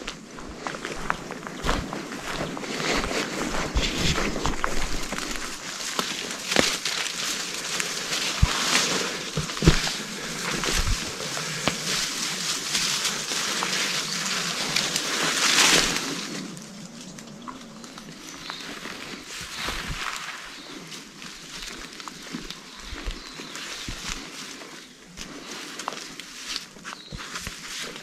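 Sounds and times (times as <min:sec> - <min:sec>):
branches rustling against clothing: 0:00.0 - 0:28.0
footsteps through wet undergrowth: 0:00.0 - 0:28.0
twigs snapping: 0:02.8 - 0:28.0.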